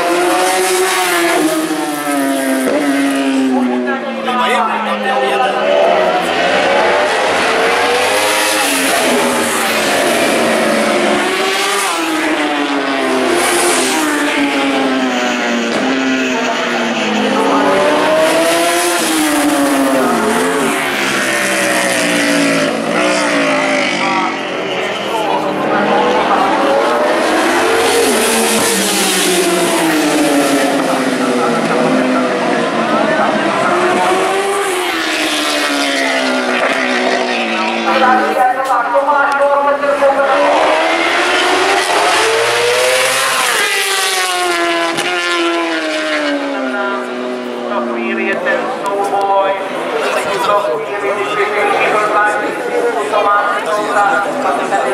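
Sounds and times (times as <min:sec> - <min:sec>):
engines wailing: 0:00.0 - 0:54.9
motorbikes passing at speed: 0:00.0 - 0:54.9.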